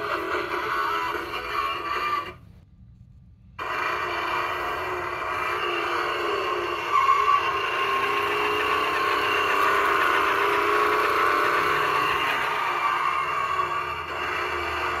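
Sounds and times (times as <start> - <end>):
toy engine sound effect: 0.0 - 2.4, 3.6 - 15.0.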